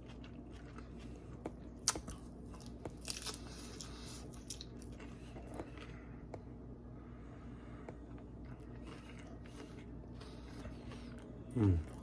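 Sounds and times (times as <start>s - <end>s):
chewing and biting food: 0.0s - 6.5s, 7.9s - 12.0s.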